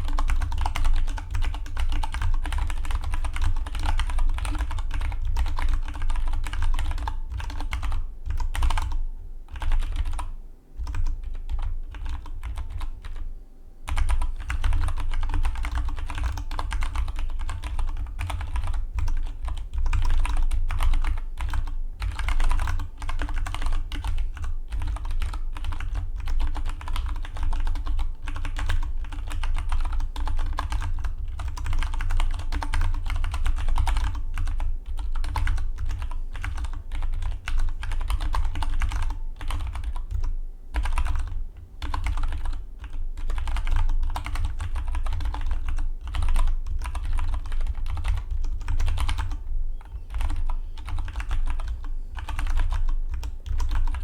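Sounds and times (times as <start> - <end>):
fast typing on mechanical keyboard: 0.0 - 13.2, 13.9 - 54.0.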